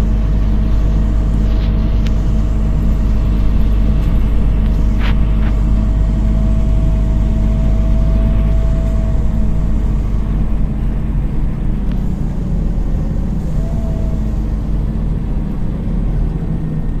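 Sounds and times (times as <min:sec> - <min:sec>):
thin whine: 0:00.0 - 0:15.7
bus engine drone with road noise: 0:00.0 - 0:17.0.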